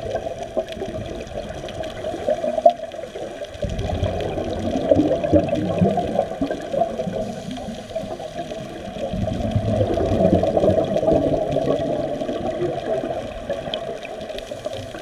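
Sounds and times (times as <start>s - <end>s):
underwater bubbles gurgling: 0.0s - 15.0s.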